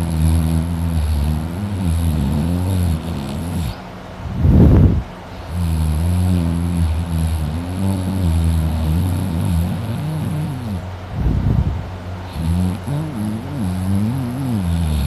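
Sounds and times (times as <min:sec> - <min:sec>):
man snoring loudly: 0:00.0 - 0:03.8, 0:05.4 - 0:10.9, 0:12.2 - 0:15.0
harsh snort: 0:00.0 - 0:11.6, 0:12.2 - 0:15.0.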